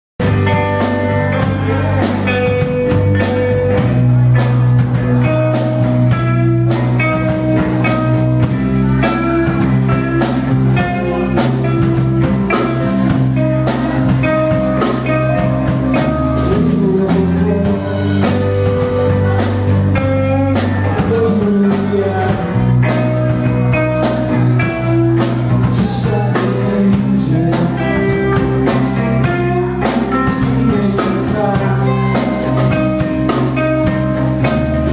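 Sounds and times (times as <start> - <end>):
bass guitar: 0.2 - 34.9
drum kit beat: 0.2 - 34.9
electric guitar: 0.2 - 34.9.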